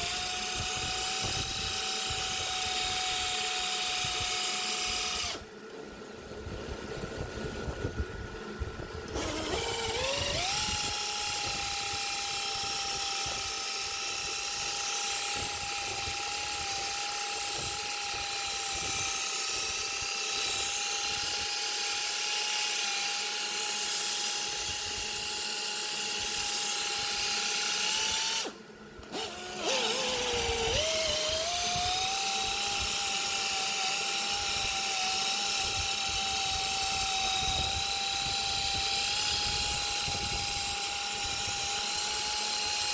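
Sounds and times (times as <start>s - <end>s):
power tool whining: 0.0s - 8.0s, 8.6s - 42.9s.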